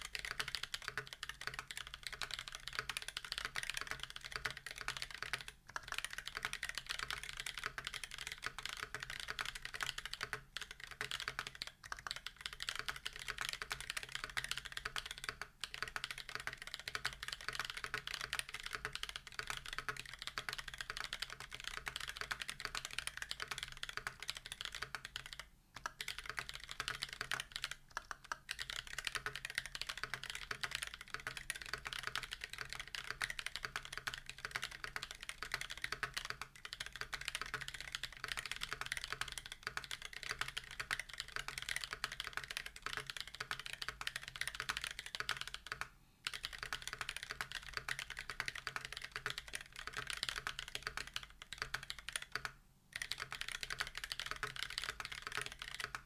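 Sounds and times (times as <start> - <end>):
fast typing on mechanical keyboard: 0.0 - 56.0.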